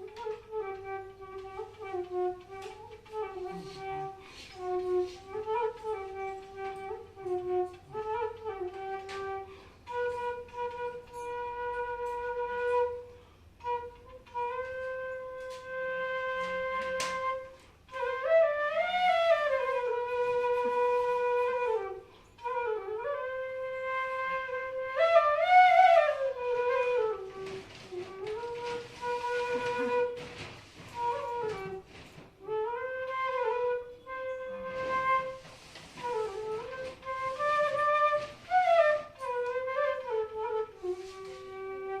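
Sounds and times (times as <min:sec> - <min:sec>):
bamboo flute slow melody: 0:00.0 - 0:42.0.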